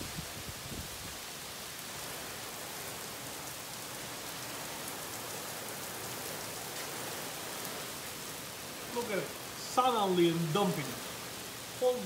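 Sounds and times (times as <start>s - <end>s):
heavy rain on concrete: 0.0s - 12.0s.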